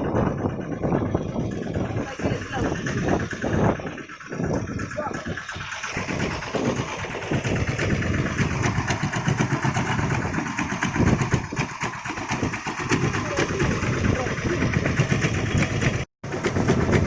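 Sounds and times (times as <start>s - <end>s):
small boat engine running: 0.0s - 17.0s.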